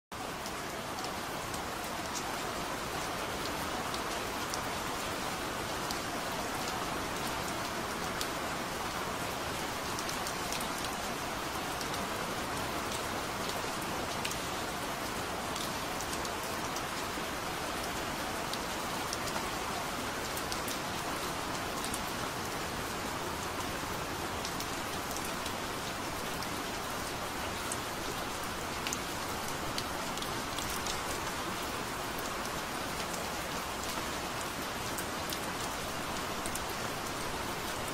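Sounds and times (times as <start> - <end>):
steady rain hiss: 0.2 - 37.9.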